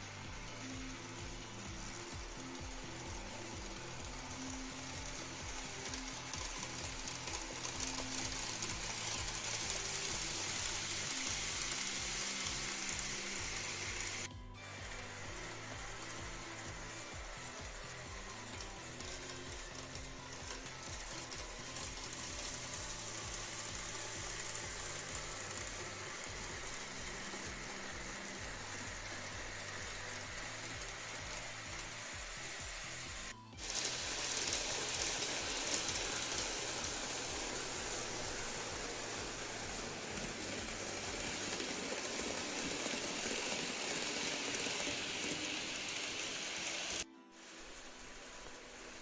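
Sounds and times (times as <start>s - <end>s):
model trains whirring rattle: 0.0s - 49.0s.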